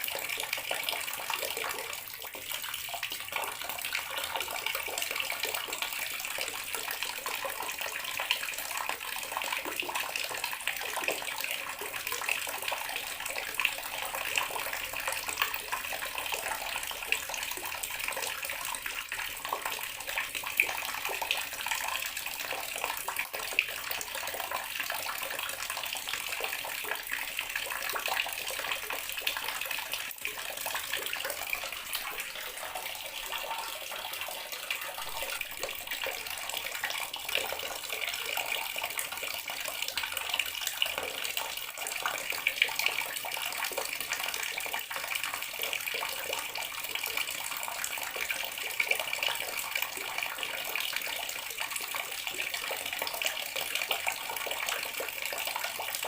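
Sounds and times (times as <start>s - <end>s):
water tap running into basin: 0.0s - 56.0s.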